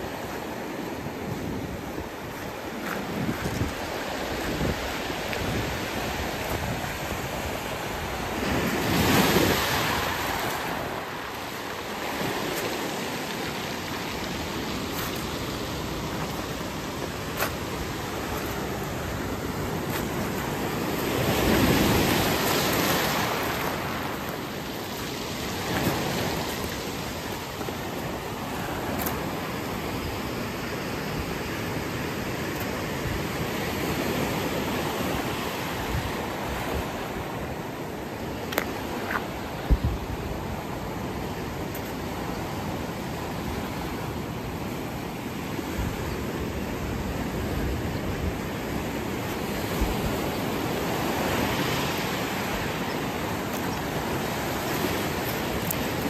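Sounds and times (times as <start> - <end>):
surf washing up pebble beach: 0.0 - 56.0
waves breaking: 0.0 - 56.0.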